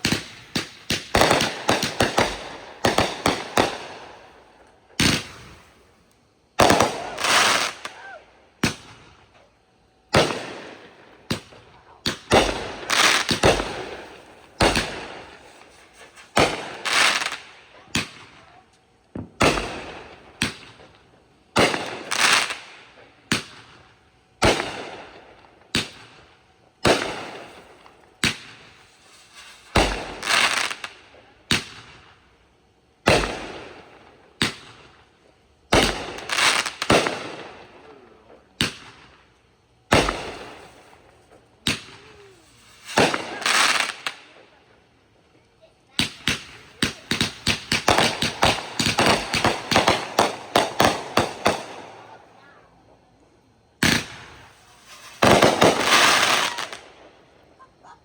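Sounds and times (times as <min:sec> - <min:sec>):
fireworks bursting with bangs: 0:00.0 - 0:58.0.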